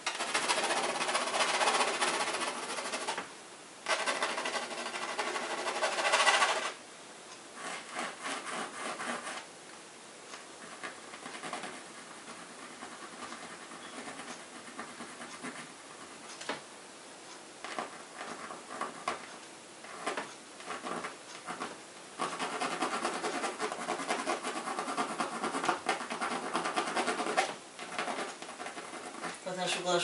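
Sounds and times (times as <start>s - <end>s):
pencil scratching on canvas: 0.0s - 6.8s, 7.6s - 9.5s, 10.3s - 16.5s, 17.6s - 30.0s.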